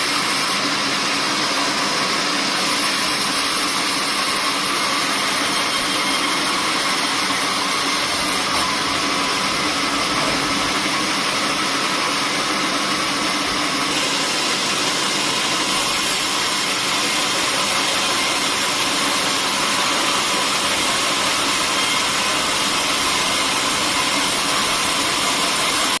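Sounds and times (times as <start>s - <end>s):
sawmill machinery running: 0.0s - 26.0s.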